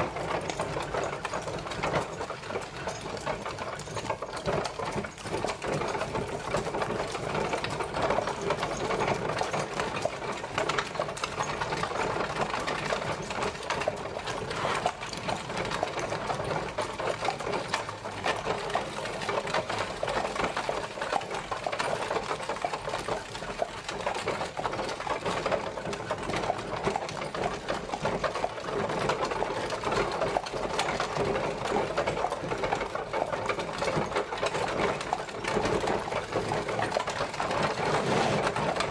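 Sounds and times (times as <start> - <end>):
horse-drawn carriage rattling: 0.0 - 38.9.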